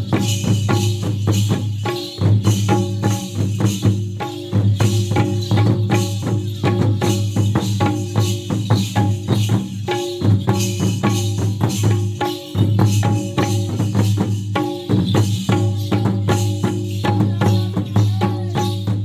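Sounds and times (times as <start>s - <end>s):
hand drums in dance rhythm: 0.0s - 19.0s.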